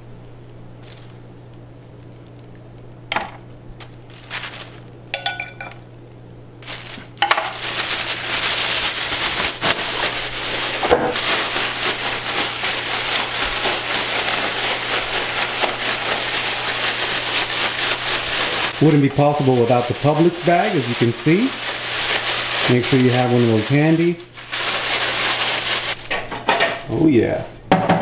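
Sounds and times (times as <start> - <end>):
plastic bag crinkling and rustling: 0.3 - 2.9, 3.7 - 27.4.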